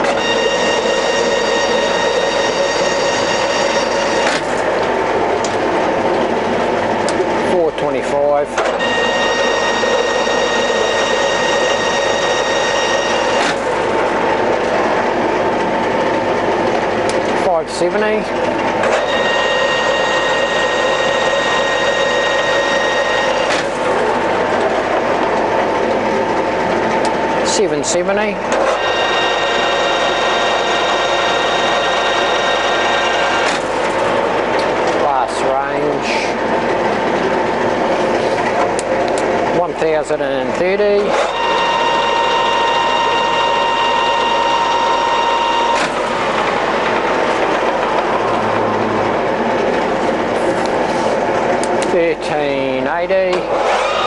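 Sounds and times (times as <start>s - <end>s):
high whine: 0.0s - 54.0s
lathe gear whir: 0.0s - 54.0s.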